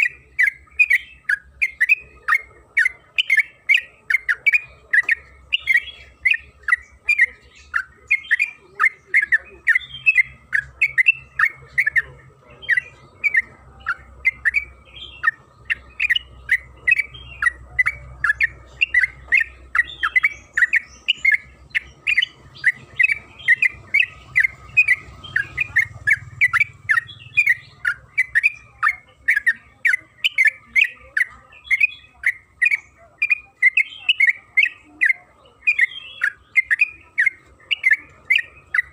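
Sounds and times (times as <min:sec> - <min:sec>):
bird singing rapid chattering notes: 0:00.0 - 0:38.9.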